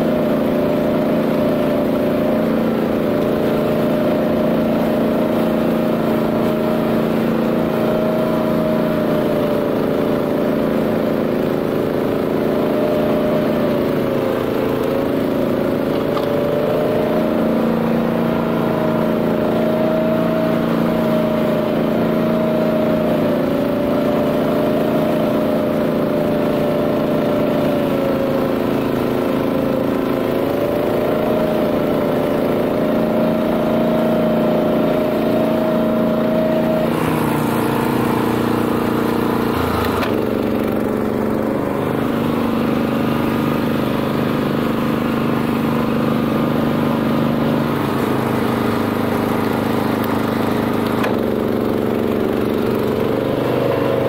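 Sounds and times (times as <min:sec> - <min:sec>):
flail mower: 0:00.0 - 0:54.0
petrol engine running: 0:00.0 - 0:54.0.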